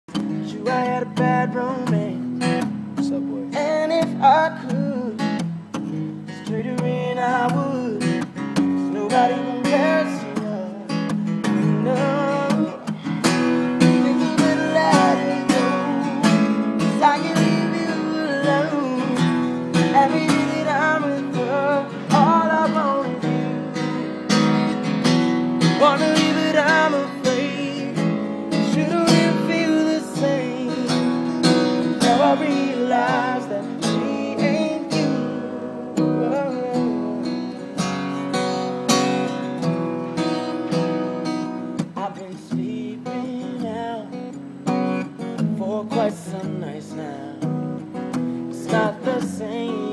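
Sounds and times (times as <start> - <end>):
acoustic guitar strummed and picked: 0.0 - 49.9.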